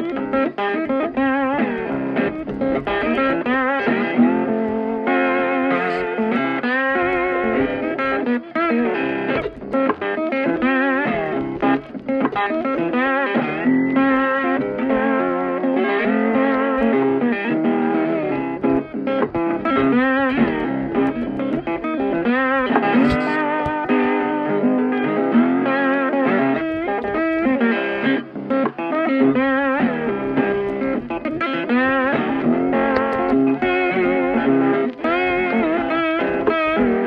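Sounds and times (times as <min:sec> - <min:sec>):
guitar music with bent notes: 0:00.0 - 0:37.0.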